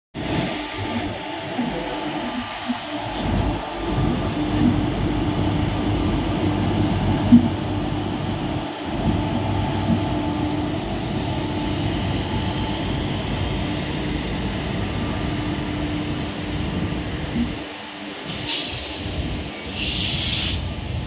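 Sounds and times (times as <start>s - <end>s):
constant low hum: 0.2s - 19.6s
train rolling past: 0.2s - 21.0s.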